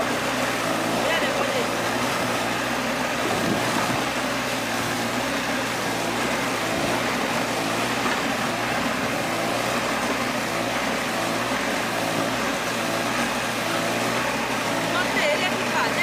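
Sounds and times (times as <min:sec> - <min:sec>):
small engine running steadily: 0:00.0 - 0:16.0.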